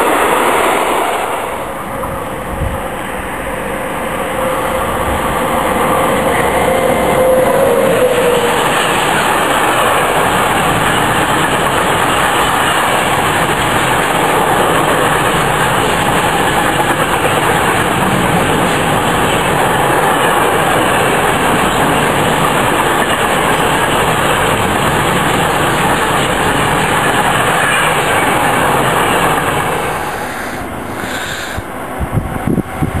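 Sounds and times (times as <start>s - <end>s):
steel wheels running on rails: 0.0s - 33.0s.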